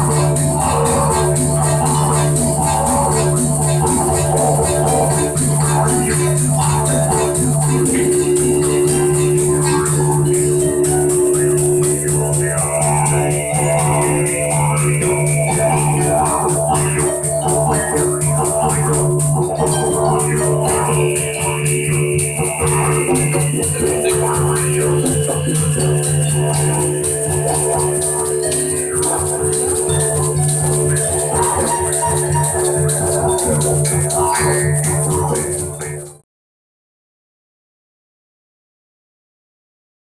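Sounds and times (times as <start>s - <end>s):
didgeridoo drone: 0.0s - 36.2s
fast rattling rhythm: 0.0s - 36.2s.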